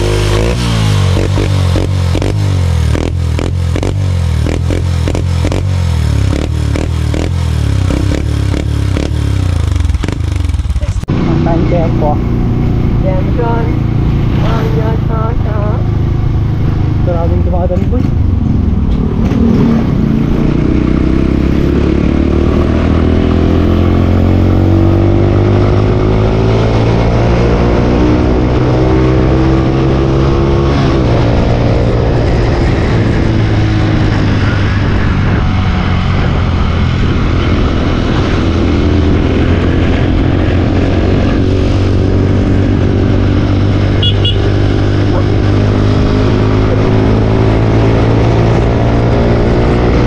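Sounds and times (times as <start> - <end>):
motorcycle engine at raised revs: 0.0 - 50.0.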